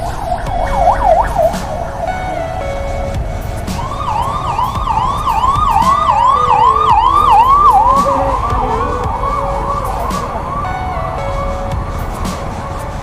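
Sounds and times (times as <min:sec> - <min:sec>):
emergency siren yelping: 0:00.0 - 0:12.0
road traffic rumble: 0:00.0 - 0:13.0.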